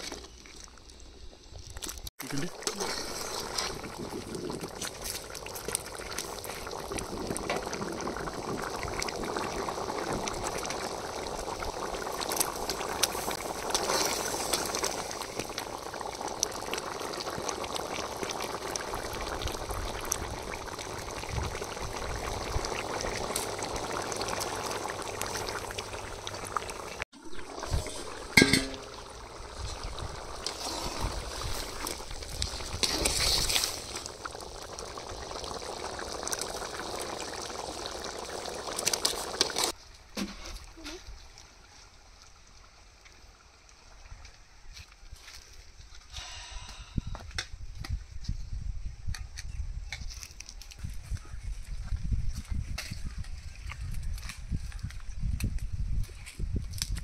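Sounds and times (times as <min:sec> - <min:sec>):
gravy bubbling in a pot: 0:00.0 - 0:39.8, 0:50.6 - 0:57.0.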